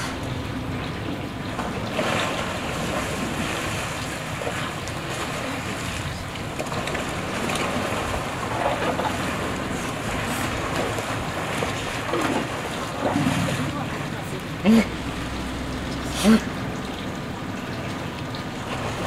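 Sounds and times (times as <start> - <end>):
water splashing and churning: 0.0 - 19.0.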